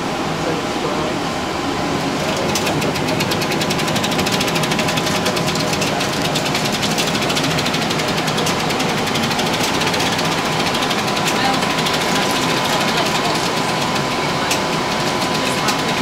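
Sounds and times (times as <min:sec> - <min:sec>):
film projector clattering: 0:02.0 - 0:16.0.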